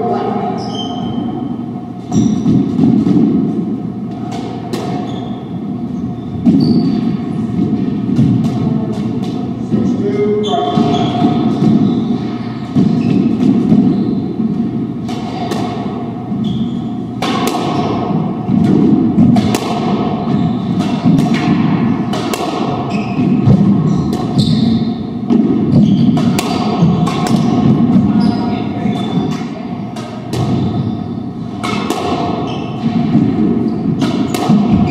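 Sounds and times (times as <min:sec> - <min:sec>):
squash ball hits: 0:02.0 - 0:34.9.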